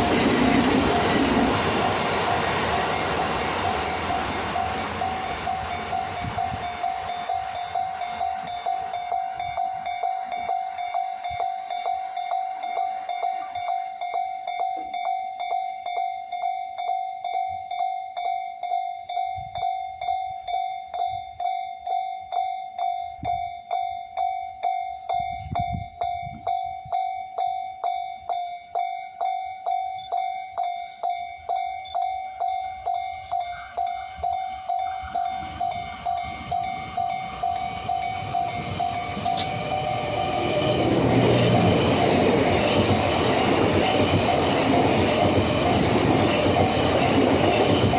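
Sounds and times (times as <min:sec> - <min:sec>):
level-crossing warning bell ringing: 0:00.0 - 0:47.9
passing train: 0:00.0 - 0:47.9.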